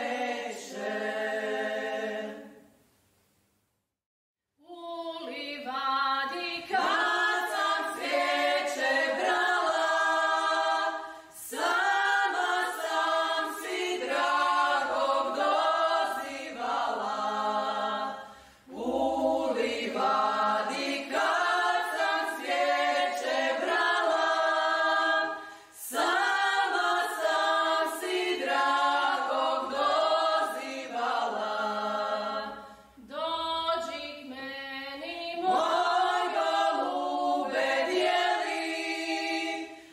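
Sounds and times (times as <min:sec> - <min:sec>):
group singing unaccompanied: 0:00.0 - 0:02.7, 0:05.3 - 0:39.9.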